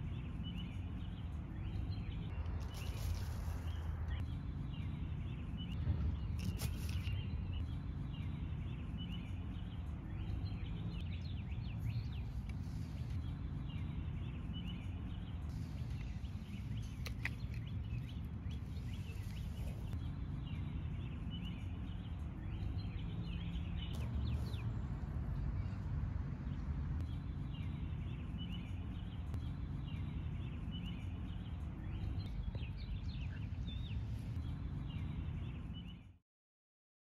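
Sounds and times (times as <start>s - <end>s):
small birds chirping: 0.0s - 36.2s.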